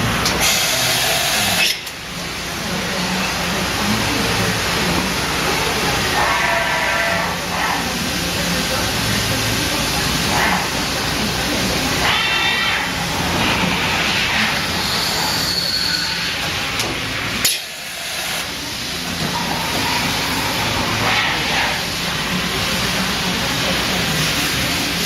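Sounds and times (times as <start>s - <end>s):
machining center running: 0.0s - 25.0s.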